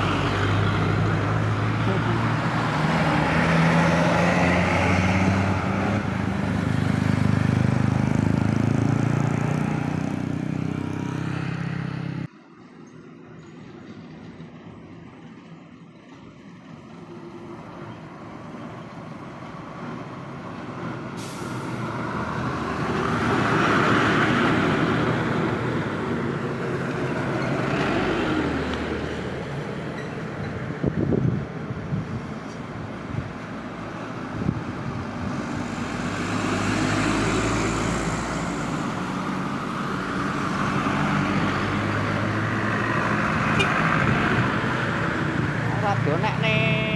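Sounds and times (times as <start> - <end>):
heavy vehicles passing: 0.0 - 46.9.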